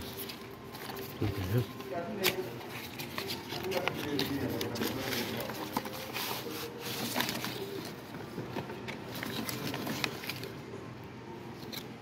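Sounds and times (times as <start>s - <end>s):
cardboard and plastic packaging rustling: 0.0s - 10.8s.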